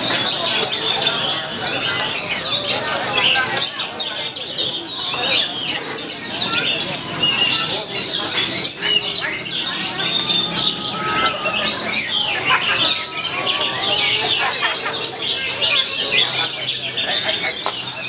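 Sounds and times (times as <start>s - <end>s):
birds singing: 0.0s - 18.0s.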